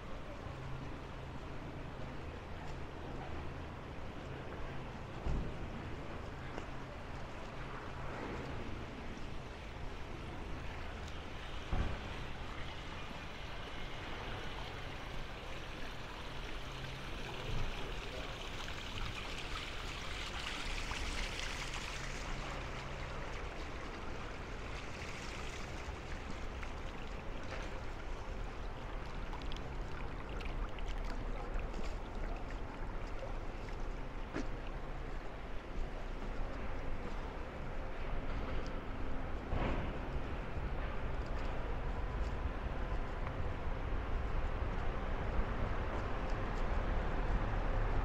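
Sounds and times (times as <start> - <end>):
rushing water: 0.0 - 48.0.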